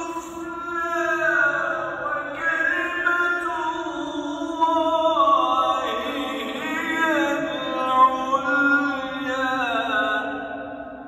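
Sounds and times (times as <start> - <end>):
person chanting melodically: 0.0 - 11.0.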